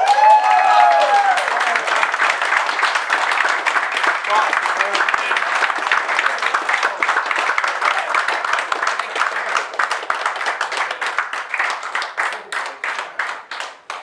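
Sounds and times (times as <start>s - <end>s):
crowd applause: 0.0s - 14.0s.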